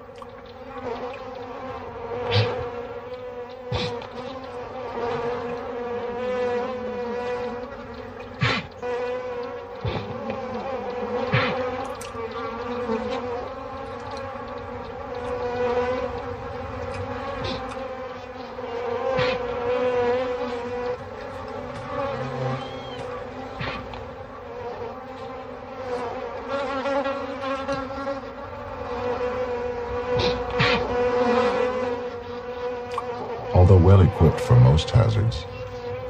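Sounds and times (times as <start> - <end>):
bee flying close past: 0.0 - 36.0
honeybees buzzing: 0.0 - 36.0.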